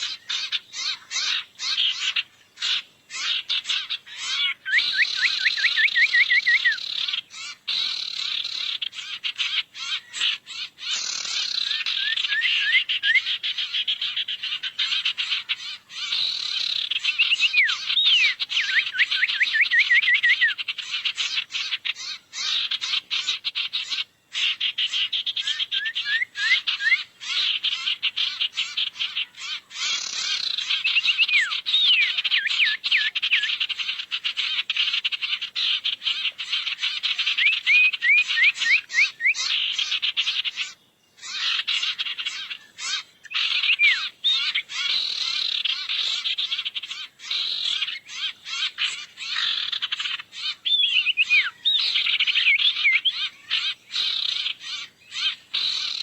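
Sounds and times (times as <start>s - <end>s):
birds chattering and chirping: 0.0s - 56.0s.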